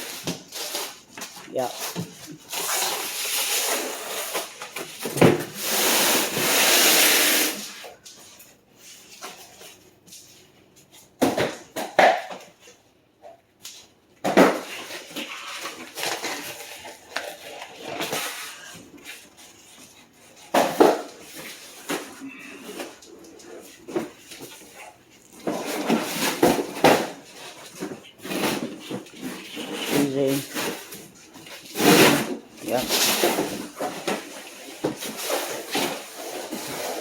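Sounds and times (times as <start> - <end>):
packing paper tearing and rustling: 0.0 - 8.4, 14.3 - 37.0.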